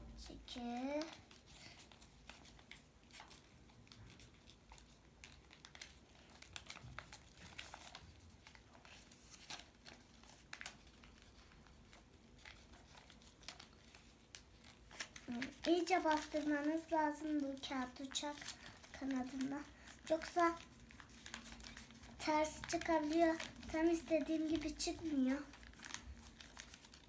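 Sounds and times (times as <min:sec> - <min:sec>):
paper rustling and crinkling: 0:00.2 - 0:27.0.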